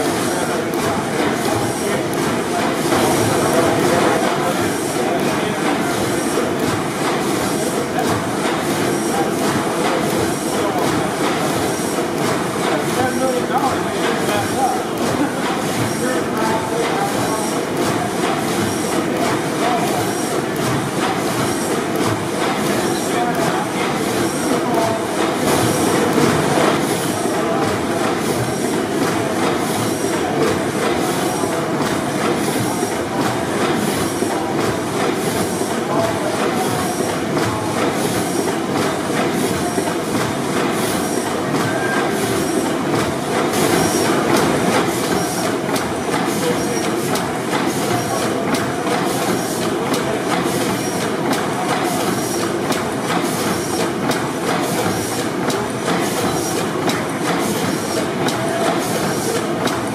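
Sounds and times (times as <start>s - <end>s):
gas compressor engine running: 0.0s - 59.9s
mechanical clatter with clicking: 0.0s - 59.9s.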